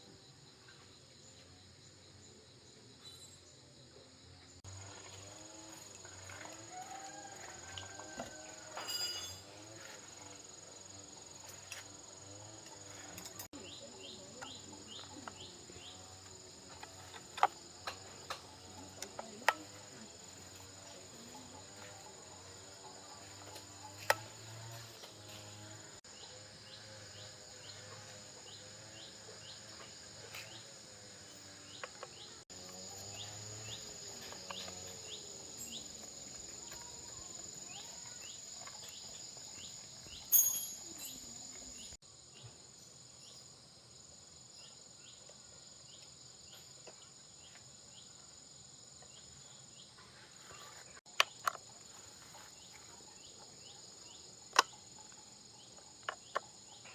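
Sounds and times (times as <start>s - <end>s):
cricket chorus: 0.0s - 56.9s.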